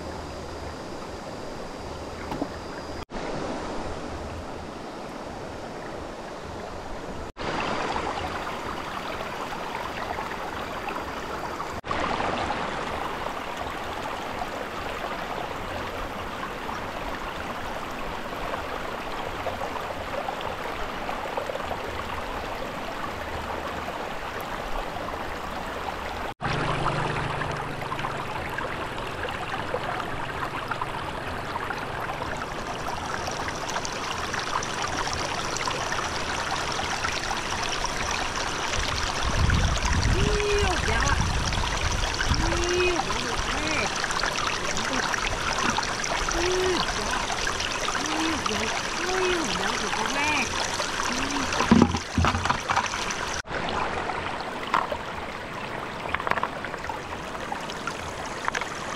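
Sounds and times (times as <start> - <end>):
stream water flowing and splashing: 0.0 - 58.9.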